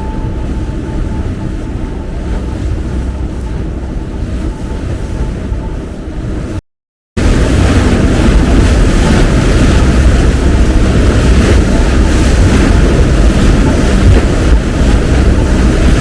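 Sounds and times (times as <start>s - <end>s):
boat engine and water rushing: 0.0s - 6.6s, 7.2s - 16.0s
wind buffeting microphone: 0.0s - 6.6s, 7.2s - 16.0s.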